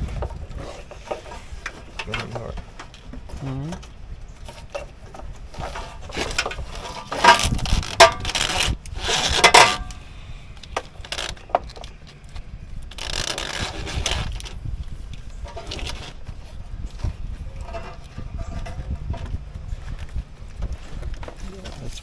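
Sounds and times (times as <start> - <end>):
wiring harness scraping and rattling: 0.0 - 22.0.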